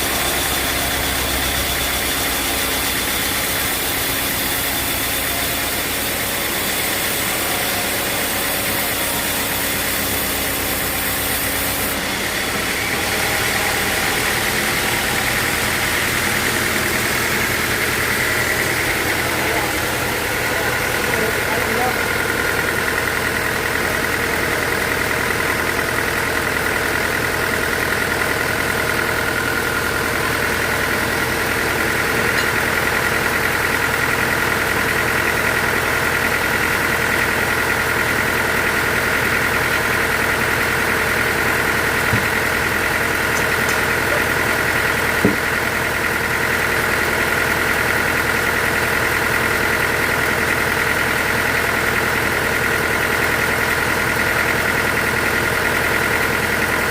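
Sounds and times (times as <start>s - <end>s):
sawmill machinery humming: 0.0s - 56.9s.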